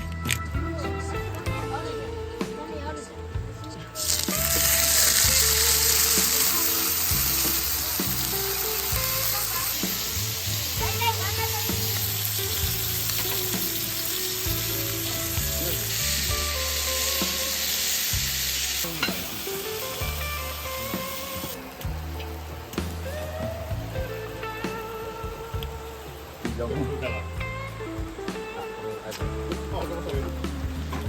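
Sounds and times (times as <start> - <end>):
background music: 0.0 - 31.0
heavy rain falling: 4.0 - 31.0.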